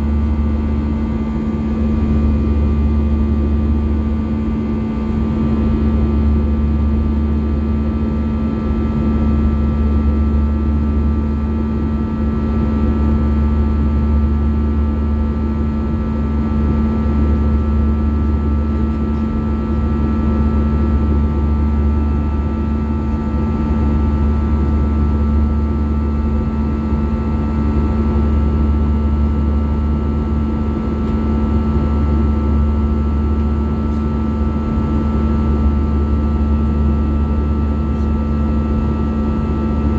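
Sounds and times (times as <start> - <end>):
jet engine cabin drone: 0.0 - 14.4, 15.3 - 39.9.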